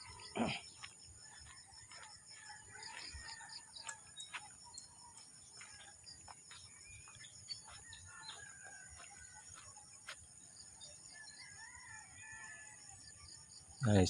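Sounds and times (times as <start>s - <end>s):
birds chirping: 0.0s - 12.5s.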